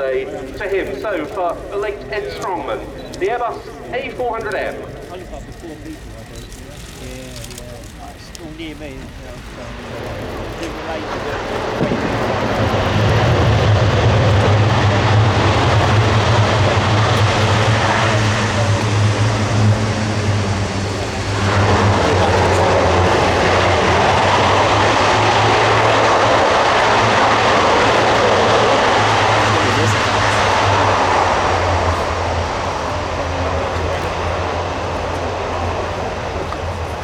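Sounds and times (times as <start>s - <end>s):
low propeller drone: 0.0s - 37.0s
rushing engine roar: 0.0s - 37.0s.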